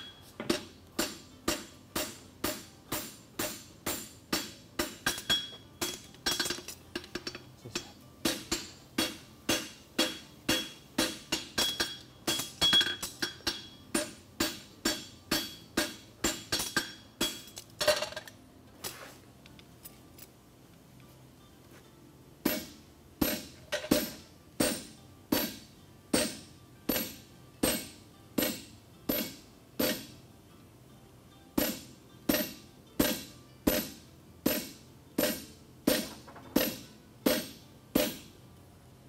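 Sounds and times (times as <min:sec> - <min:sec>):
hammer striking hot steel on anvil: 0:00.0 - 0:18.3, 0:22.4 - 0:30.2, 0:31.6 - 0:38.4.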